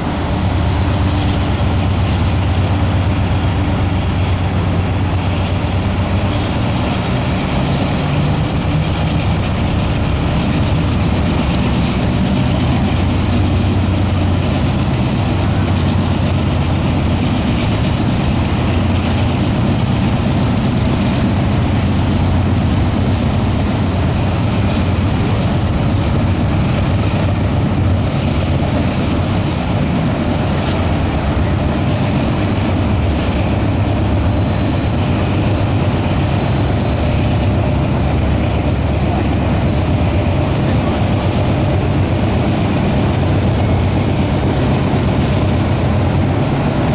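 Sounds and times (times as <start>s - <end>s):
freight train rumbling past: 0.0s - 46.9s.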